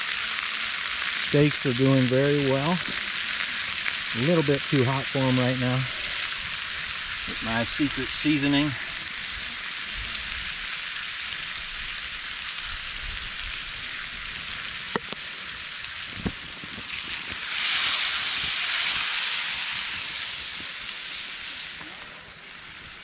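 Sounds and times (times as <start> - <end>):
steaks sizzling in a pan: 0.0 - 23.0.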